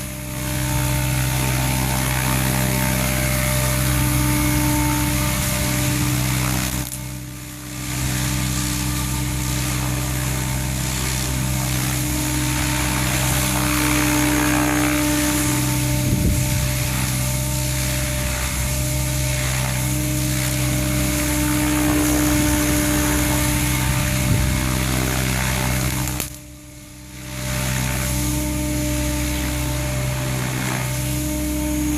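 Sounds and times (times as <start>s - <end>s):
rc helicopter rotor drone: 0.0s - 31.9s.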